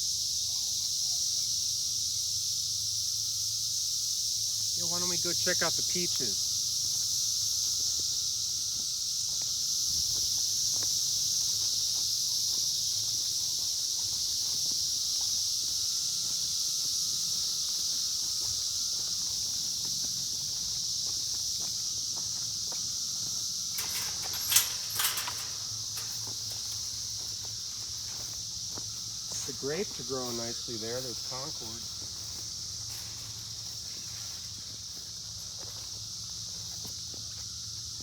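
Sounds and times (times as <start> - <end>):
insect chorus drone: 0.0 - 38.0.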